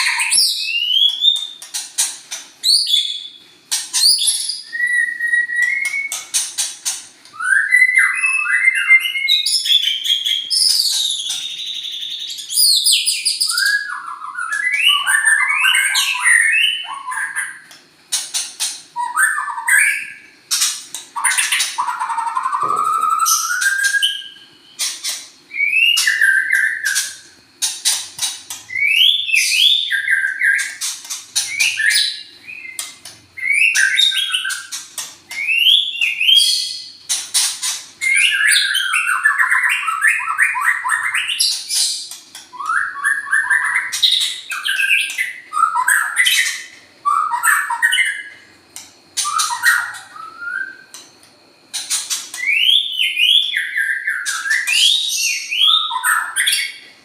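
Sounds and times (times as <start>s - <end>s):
songbird chirping and clicking: 0.0s - 8.4s, 9.0s - 19.7s, 20.5s - 56.6s.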